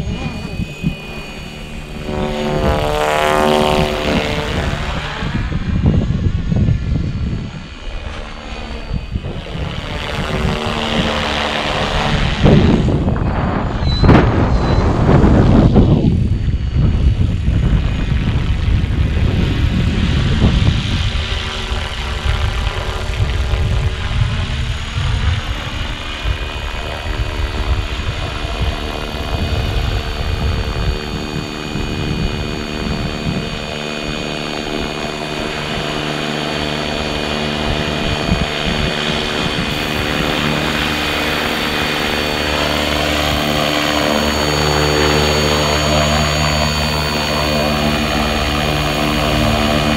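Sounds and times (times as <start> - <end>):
rc helicopter rotor whine: 0.0 - 49.9
wind buffeting microphone: 0.0 - 49.9.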